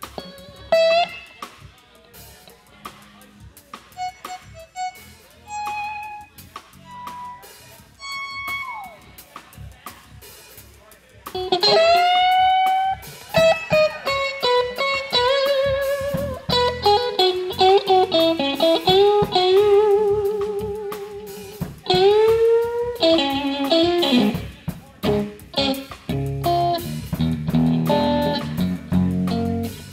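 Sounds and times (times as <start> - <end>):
electric guitar solo: 0.0 - 1.4, 4.0 - 9.1, 11.4 - 29.9
bass and drums: 0.0 - 29.9.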